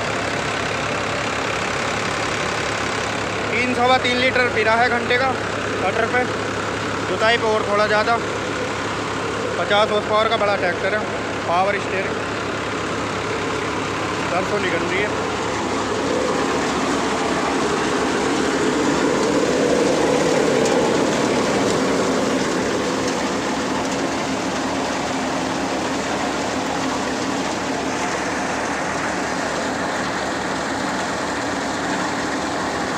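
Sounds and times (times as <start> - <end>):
threshing machine rattle: 0.0 - 32.9
tractor engine running under load: 0.0 - 32.9.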